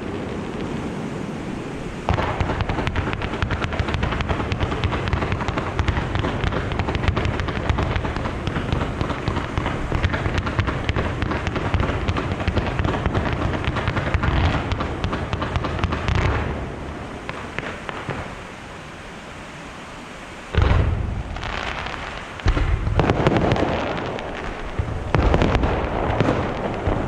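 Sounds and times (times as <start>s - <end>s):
fireworks booming and crackling: 0.0s - 18.8s, 20.5s - 27.0s.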